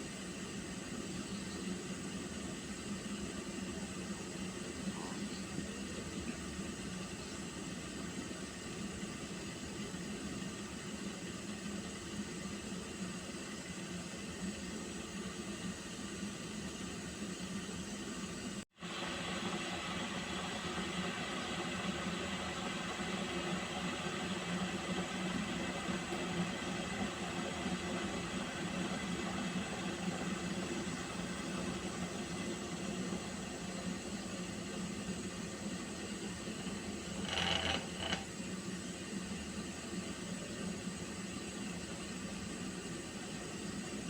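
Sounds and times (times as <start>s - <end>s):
water heating in a pot: 0.0s - 44.0s.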